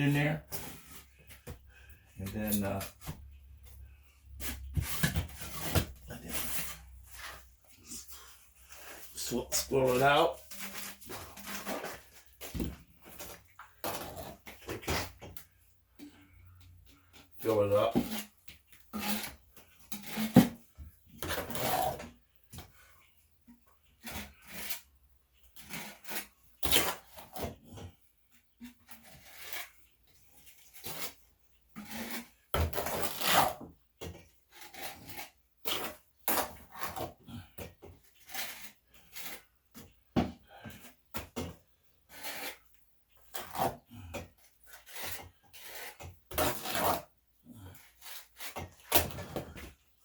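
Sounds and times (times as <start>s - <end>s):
scraping wet concrete into a tube: 3.8s - 15.3s, 17.2s - 22.9s, 23.5s - 50.0s.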